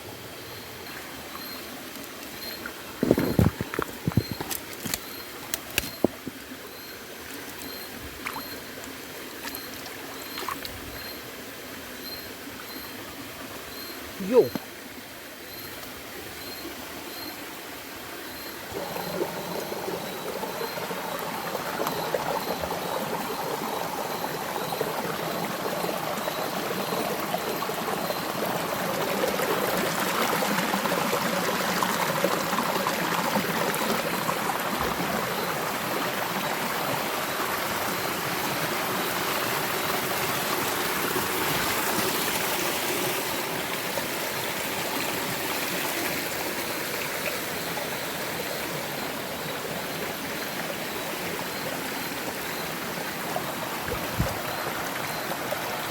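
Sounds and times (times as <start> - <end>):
creek water running: 0.0 - 55.9.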